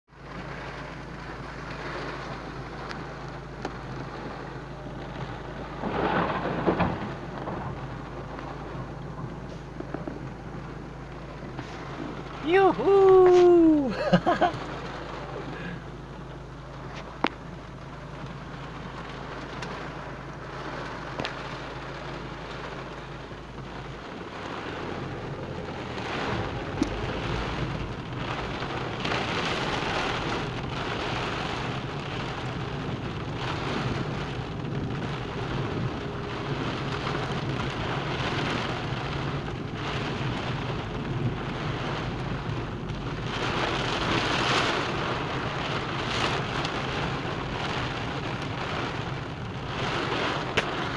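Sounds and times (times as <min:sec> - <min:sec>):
low engine hum: 0:00.0 - 0:50.9
heavy rain drumming on car roof: 0:00.1 - 0:50.9.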